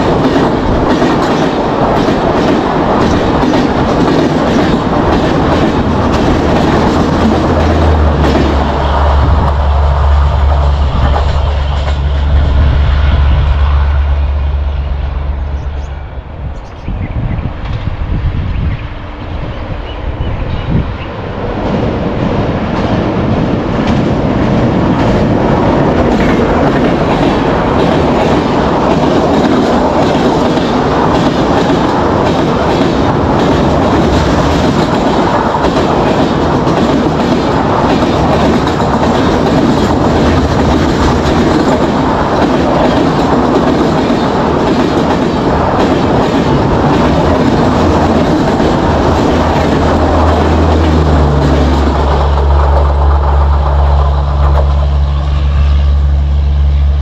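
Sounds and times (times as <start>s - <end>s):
wheels clacking over rail joints: 0.0s - 12.3s, 21.5s - 55.7s
train passing at high speed: 0.0s - 57.0s.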